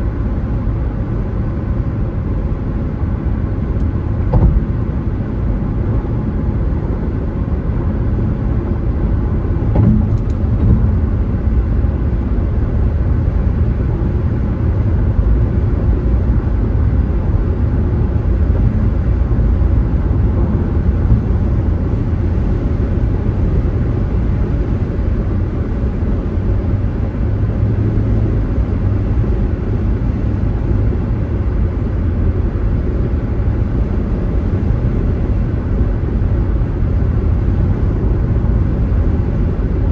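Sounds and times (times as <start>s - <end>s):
car driving road and engine noise: 0.0s - 39.9s.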